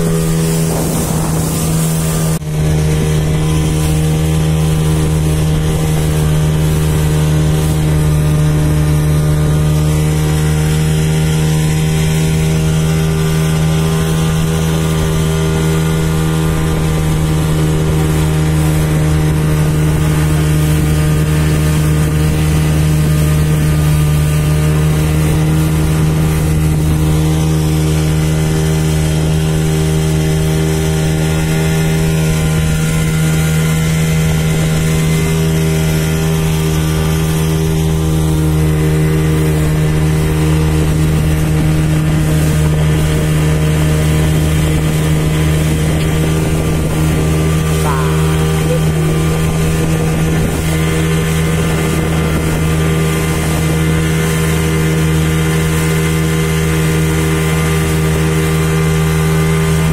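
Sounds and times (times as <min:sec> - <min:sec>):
speedboat engine drone: 0:00.0 - 0:59.9.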